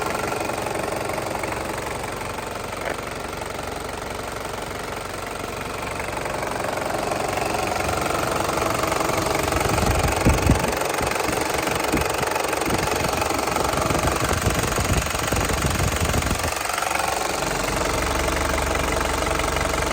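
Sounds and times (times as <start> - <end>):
diesel engine idling clatter: 0.0 - 19.9.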